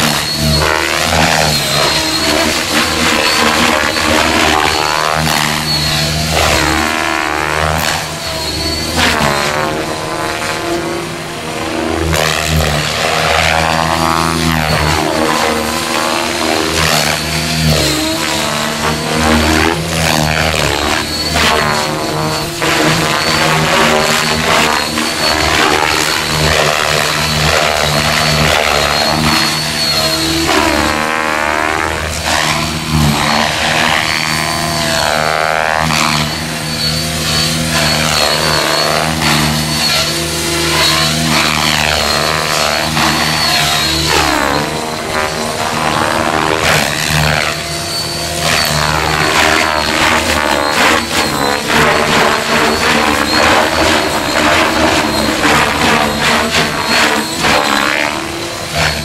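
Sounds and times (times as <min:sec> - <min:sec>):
helicopter rotor blades: 0:00.0 - 0:59.0
high motor whine: 0:00.0 - 0:59.0.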